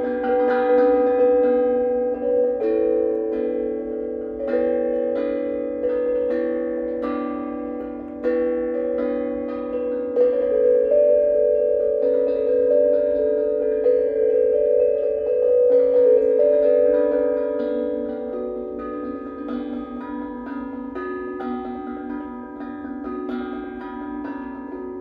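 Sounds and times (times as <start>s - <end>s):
steel tongue drums ringing: 0.0s - 25.0s.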